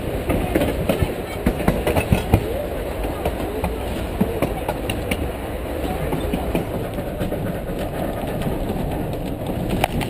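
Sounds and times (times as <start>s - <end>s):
railroad car rumbling: 0.0s - 10.0s
wheels clacking on rails: 0.0s - 10.0s.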